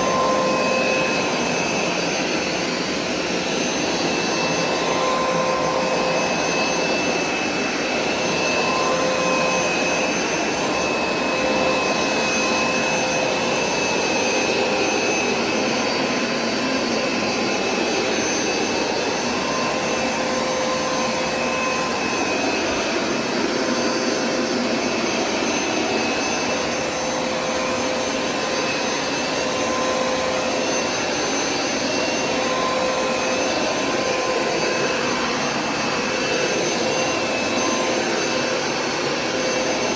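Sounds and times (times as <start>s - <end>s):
carpet cleaner running: 0.0s - 39.9s.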